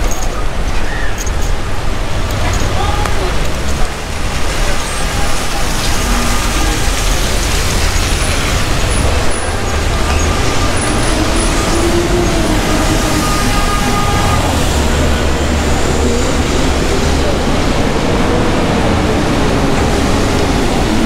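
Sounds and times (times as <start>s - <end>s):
heavy rain on wet streets: 0.0s - 21.0s
traffic engines rumbling: 0.0s - 21.0s.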